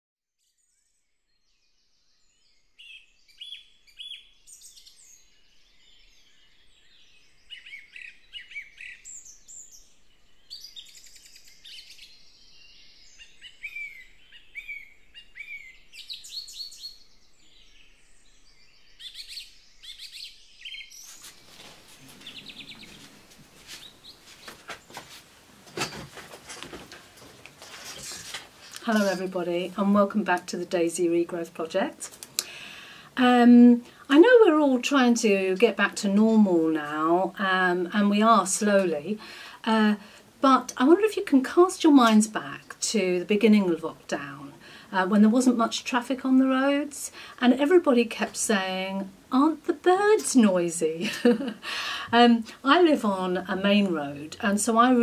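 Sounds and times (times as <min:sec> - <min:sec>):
songbirds chirping: 0:00.4 - 0:55.0
background hiss: 0:02.2 - 0:55.0.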